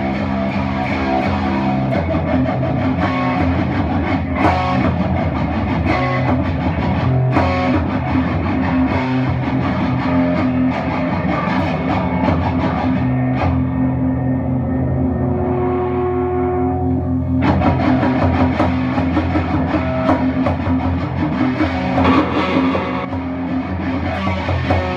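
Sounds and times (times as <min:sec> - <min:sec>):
guitar-led rock music with drums: 0:00.0 - 0:24.9.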